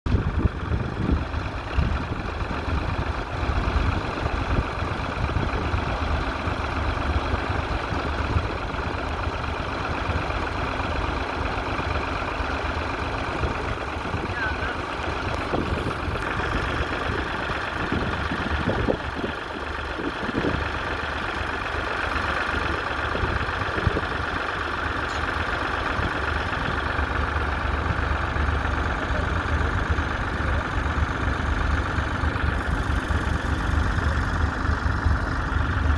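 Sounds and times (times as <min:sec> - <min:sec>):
tractor engine running: 0:00.1 - 0:35.9.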